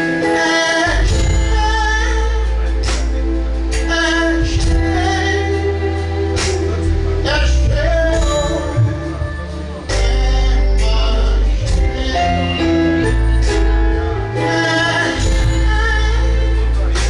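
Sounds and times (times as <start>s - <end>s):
gospel band playing: 0.0s - 17.0s
heavy bass line: 0.0s - 17.0s
sustained keyboard chords: 0.0s - 17.0s.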